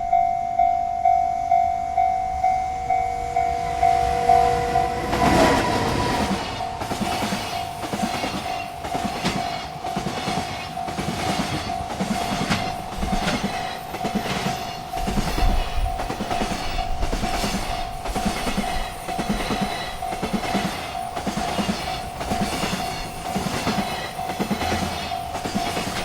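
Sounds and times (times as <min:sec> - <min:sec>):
railroad crossing bells ringing: 0:00.0 - 0:26.0
train wheels clattering over rails: 0:03.9 - 0:26.0.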